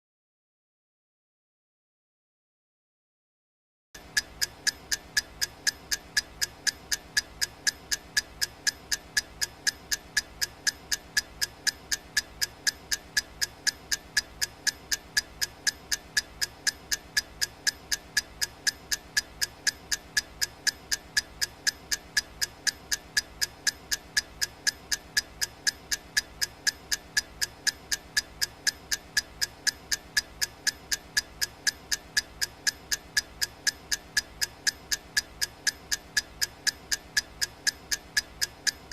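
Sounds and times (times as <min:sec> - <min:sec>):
clock ticking: 0:04.0 - 0:38.9.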